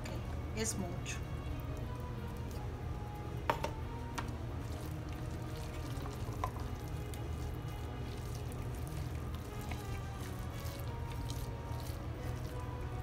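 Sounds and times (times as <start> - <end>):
soft background music: 0.0 - 13.0
wet squelching of salad stirring: 1.2 - 13.0.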